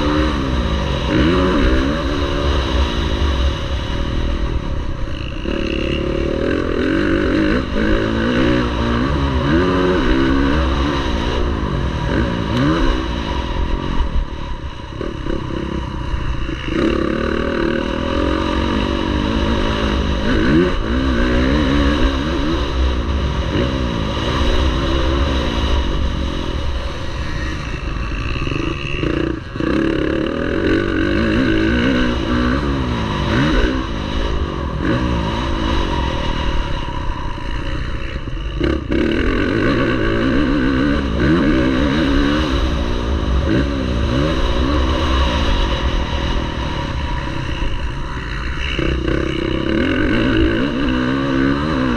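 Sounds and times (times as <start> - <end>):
motocross bike engines revving: 0.0 - 51.9.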